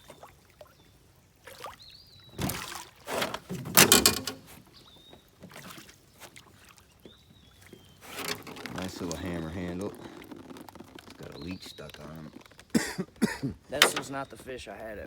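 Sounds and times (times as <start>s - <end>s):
water splashing against boat: 0.0s - 12.7s, 13.6s - 15.0s.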